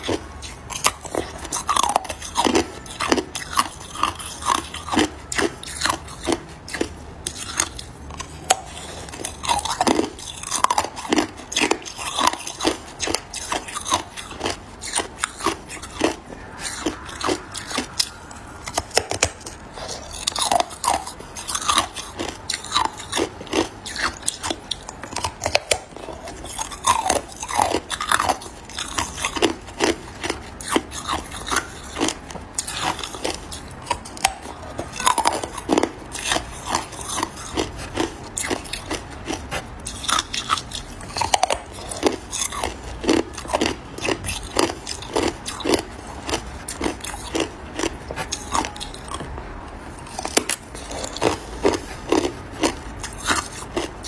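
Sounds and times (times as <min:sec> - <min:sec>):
person crunching ice: 0:00.0 - 0:49.3, 0:50.0 - 0:54.0.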